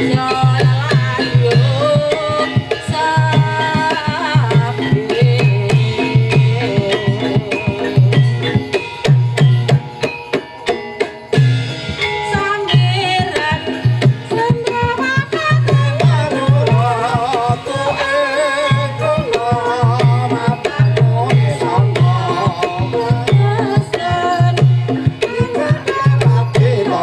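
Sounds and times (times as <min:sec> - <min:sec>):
hand drums beating: 0:00.0 - 0:27.0
ringing metallophone tones: 0:00.0 - 0:27.0.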